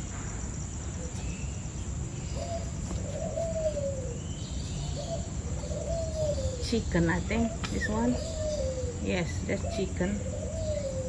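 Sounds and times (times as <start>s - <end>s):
bird calling in drawn-out notes: 1.0s - 11.0s.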